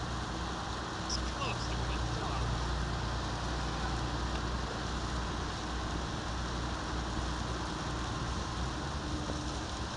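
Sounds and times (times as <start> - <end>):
boat engine rumble: 0.0 - 9.9
wind and sea hiss: 0.0 - 9.9.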